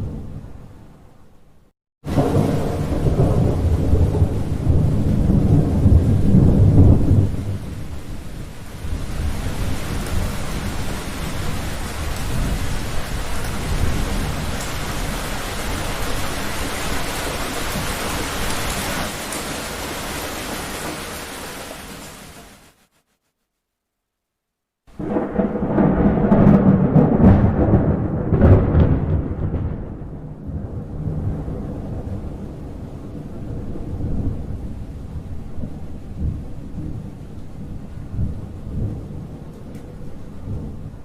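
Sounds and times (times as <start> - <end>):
thunder rumbling: 2.0 - 22.1, 24.9 - 41.0
heavy rain: 2.0 - 22.9, 24.9 - 41.0.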